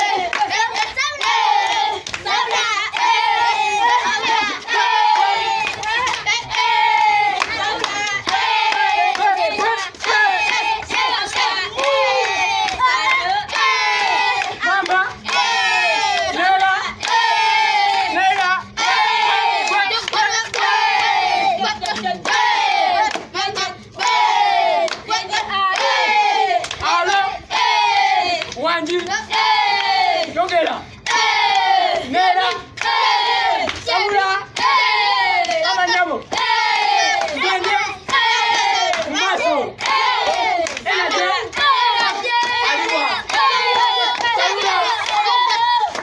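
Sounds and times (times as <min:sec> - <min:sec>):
handclaps: 0:00.0 - 0:17.3, 0:17.9 - 0:23.4, 0:24.8 - 0:26.0, 0:26.6 - 0:27.3, 0:27.9 - 0:46.0
children chanting and shouting: 0:00.0 - 0:46.0.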